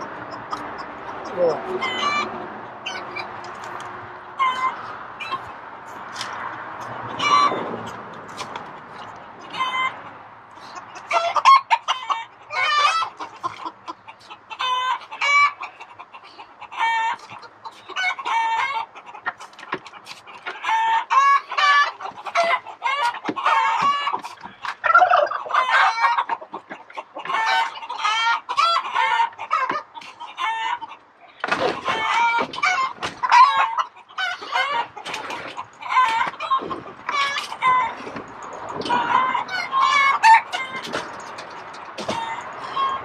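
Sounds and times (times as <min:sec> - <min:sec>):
chickens clucking: 0:00.0 - 0:43.0.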